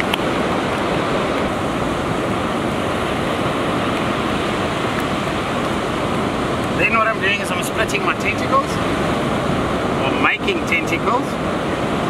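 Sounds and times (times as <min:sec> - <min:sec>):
surf on a beach: 0:00.0 - 0:12.0.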